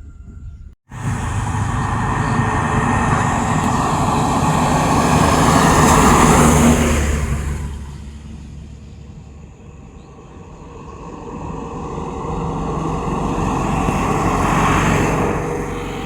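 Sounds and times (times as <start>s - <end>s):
truck passing by: 0.9s - 16.0s.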